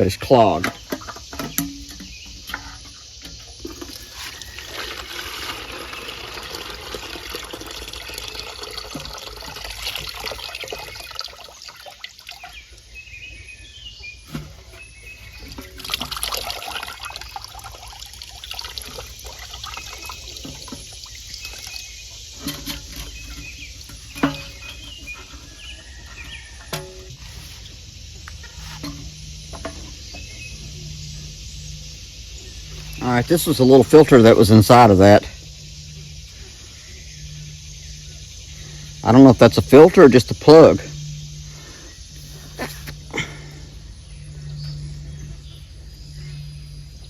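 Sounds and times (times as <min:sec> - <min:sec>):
fuel sloshing in plastic tank: 0:00.0 - 0:46.5.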